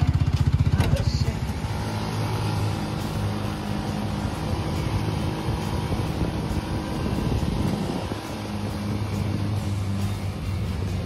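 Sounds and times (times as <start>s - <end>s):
buggy engine running: 0.0s - 11.0s
steady rushing noise: 1.0s - 11.0s.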